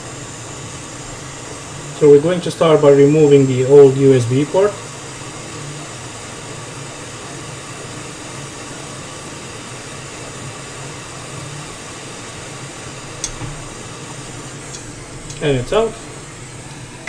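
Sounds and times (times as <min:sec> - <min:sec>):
hot air blower hissing: 0:00.0 - 0:17.0.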